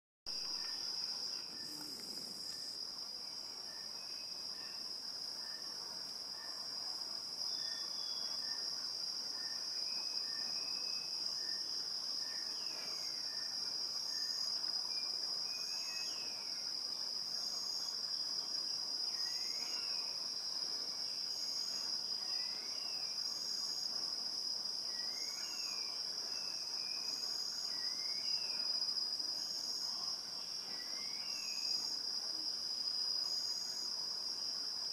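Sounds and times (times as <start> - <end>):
insects droning: 0.3 - 34.9
pulsed insect call: 0.3 - 34.9.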